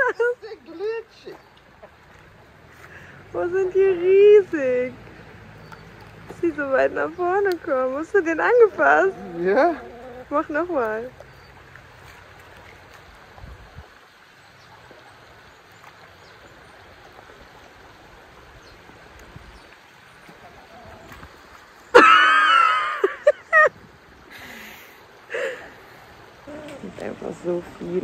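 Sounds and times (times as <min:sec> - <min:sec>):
stream flowing: 0:00.0 - 0:28.0.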